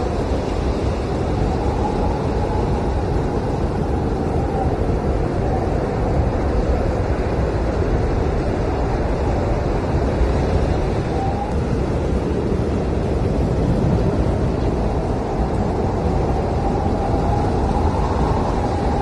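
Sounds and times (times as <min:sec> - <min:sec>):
howling blizzard wind: 0:00.0 - 0:19.0.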